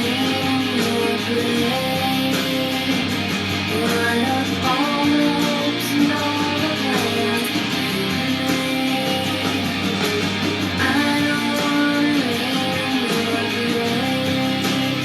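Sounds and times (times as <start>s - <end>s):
guitar-led alternative rock music: 0.0s - 15.0s.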